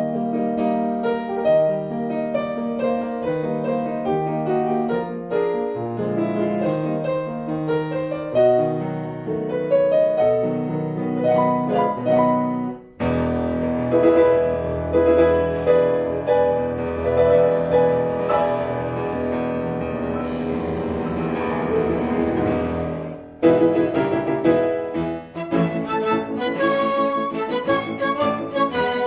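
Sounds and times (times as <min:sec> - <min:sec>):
solo piano music: 0:00.0 - 0:29.0.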